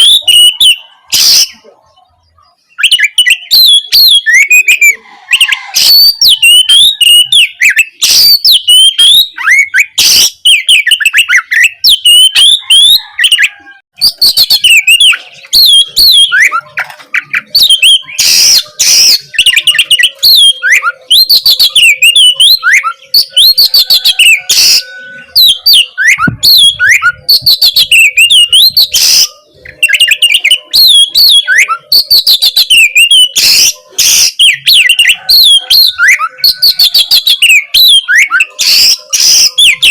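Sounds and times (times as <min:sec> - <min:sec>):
bird singing varied whistles: 0:00.0 - 0:01.7, 0:02.6 - 0:39.9
harsh rasping bird notes: 0:00.0 - 0:39.9.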